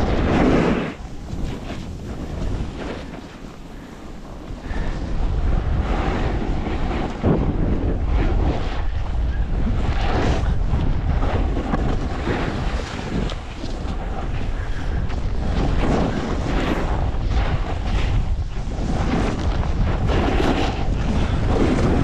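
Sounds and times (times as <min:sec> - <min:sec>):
snowboard edge scraping snow: 0:00.0 - 0:22.0
wind buffeting microphone: 0:00.0 - 0:22.0.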